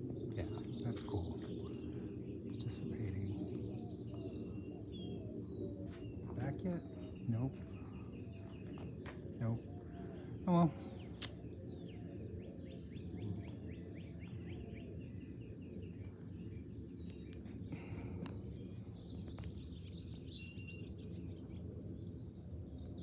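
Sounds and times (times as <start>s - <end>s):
birds chirping and calling: 0.0s - 23.0s
low background hum: 0.0s - 23.0s.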